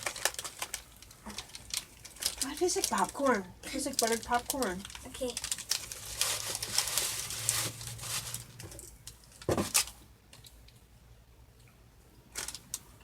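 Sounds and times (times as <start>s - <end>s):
snack packaging crinkling: 0.0s - 10.7s, 12.3s - 12.9s.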